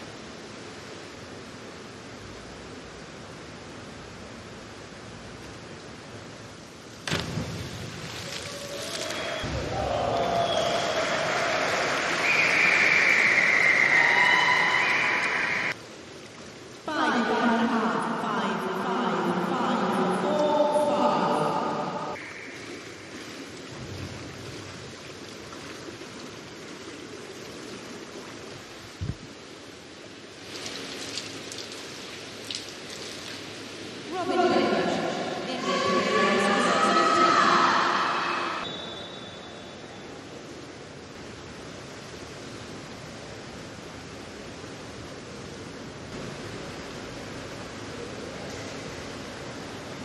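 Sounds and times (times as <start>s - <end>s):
indoor pool rushing hiss: 0.0s - 50.0s.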